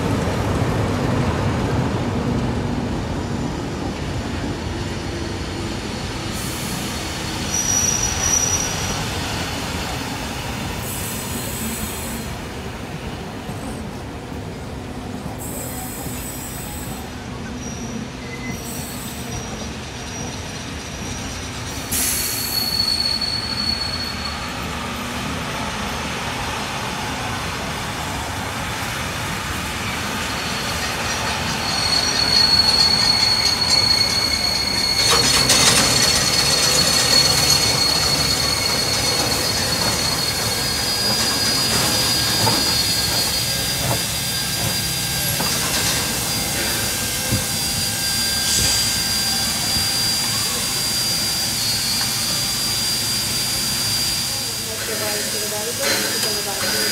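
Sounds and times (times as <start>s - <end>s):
train rolling past: 0.0s - 56.9s
steel wheel squeal on rails: 3.2s - 12.6s, 15.2s - 56.9s.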